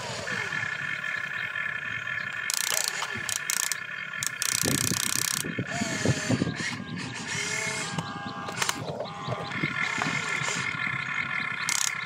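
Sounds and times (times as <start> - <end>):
model excavator motors whining: 0.0 - 12.0.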